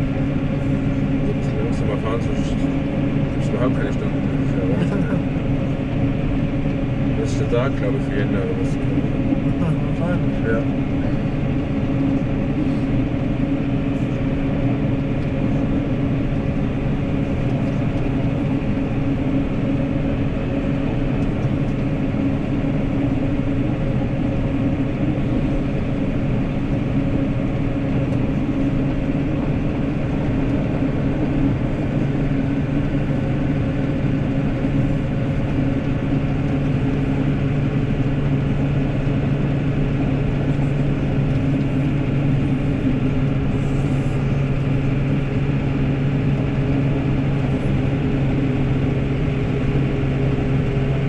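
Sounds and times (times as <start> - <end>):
plow blade pushing snow: 0.0 - 51.0
tractor diesel engine drone: 0.0 - 51.0.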